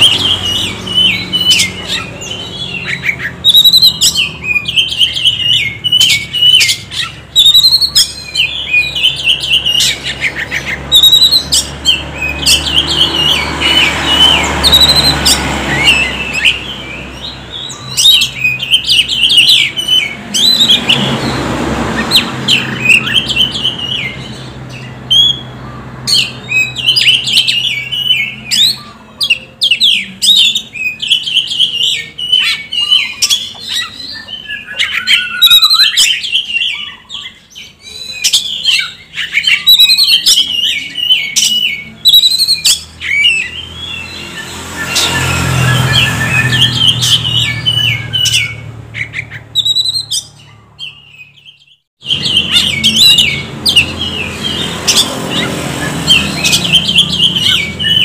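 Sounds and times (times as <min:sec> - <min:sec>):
bird singing varied whistled song: 0:00.0 - 0:21.3, 0:22.0 - 0:58.0.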